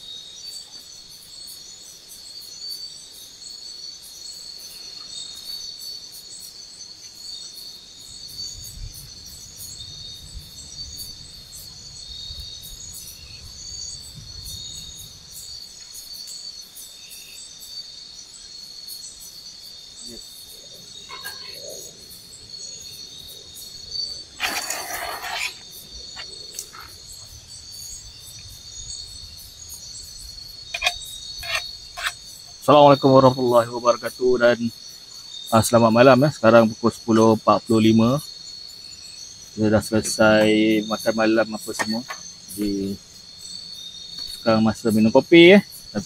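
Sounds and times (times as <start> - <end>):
insects trilling and chirping: 0.0 - 46.0.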